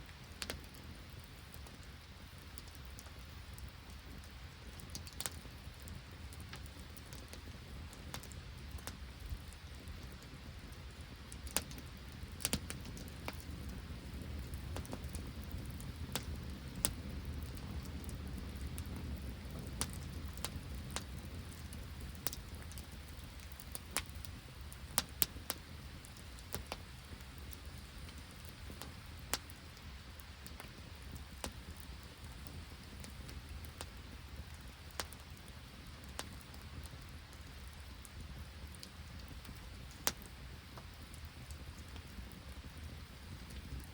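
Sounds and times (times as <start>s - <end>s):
rain and sleet falling: 0.0s - 43.9s
wood fire crackling and popping: 0.0s - 43.9s.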